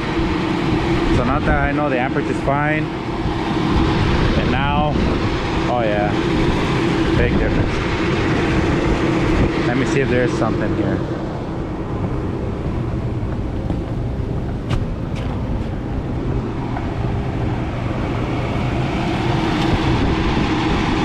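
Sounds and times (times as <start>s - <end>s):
exhaust hood fan droning: 0.0s - 21.0s.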